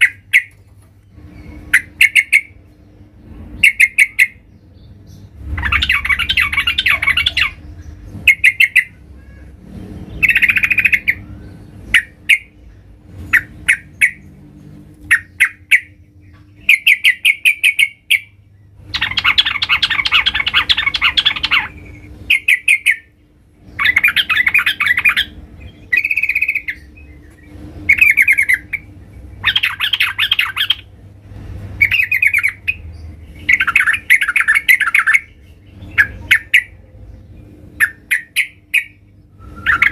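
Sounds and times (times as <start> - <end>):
bird chattering calls: 0.0 - 0.6, 1.4 - 2.6, 3.6 - 4.5, 5.6 - 12.6, 13.2 - 14.3, 15.0 - 30.9, 31.8 - 36.8, 37.8 - 39.0.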